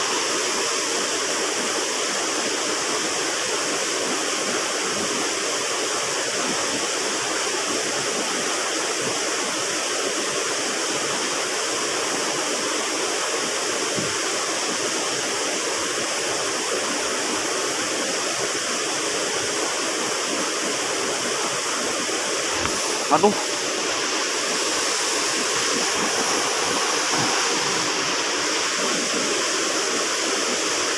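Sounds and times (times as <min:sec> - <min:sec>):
river water rushing: 0:00.0 - 0:30.9.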